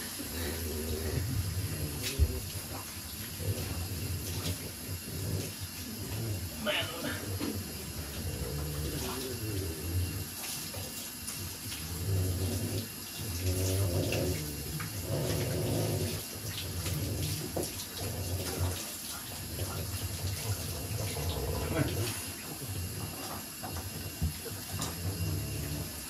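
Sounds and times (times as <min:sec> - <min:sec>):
water running from tap: 0:00.0 - 0:26.0.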